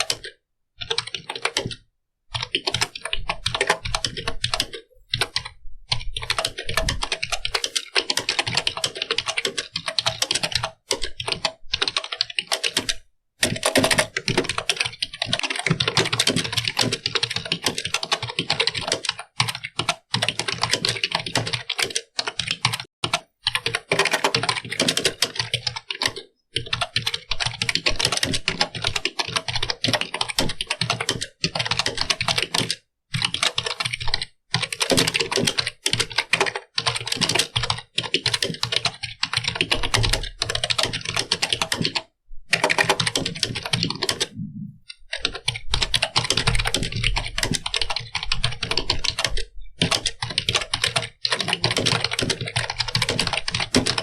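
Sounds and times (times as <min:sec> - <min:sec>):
computer keyboard typing: 0:00.0 - 0:54.0.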